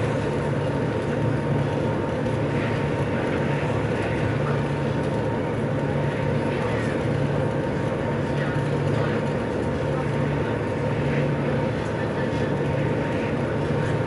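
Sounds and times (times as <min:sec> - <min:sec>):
ferry engines low hum: 0:00.0 - 0:14.0
thin steady whine: 0:00.0 - 0:14.0.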